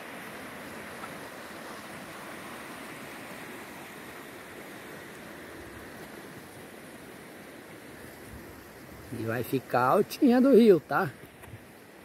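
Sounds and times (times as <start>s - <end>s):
rushing river in flood: 0.0s - 12.0s.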